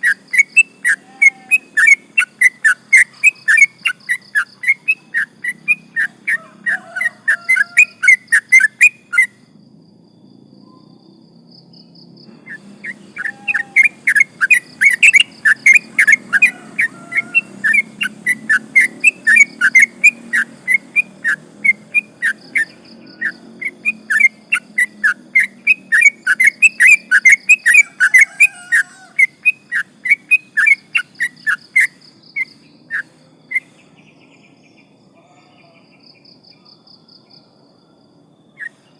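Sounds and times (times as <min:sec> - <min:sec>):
bird singing whistled notes: 0:00.0 - 0:09.5, 0:10.3 - 0:38.9.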